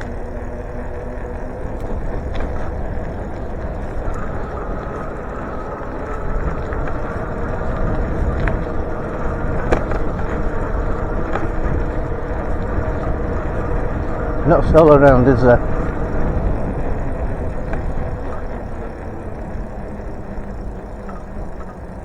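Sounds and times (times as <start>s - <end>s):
wind on microphone: 0.0s - 21.8s
bicycle tyres on road: 0.0s - 22.0s
faint steady hum: 0.0s - 22.0s
light ticks: 0.0s - 22.0s.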